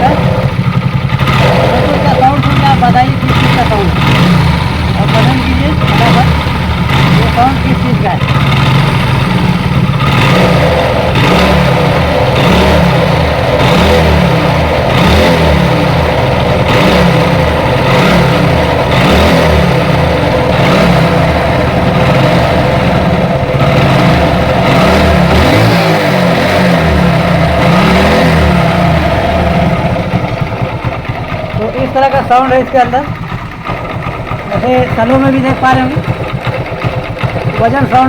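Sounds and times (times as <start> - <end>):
motorcycle engine with mechanical noise: 0.0 - 38.0.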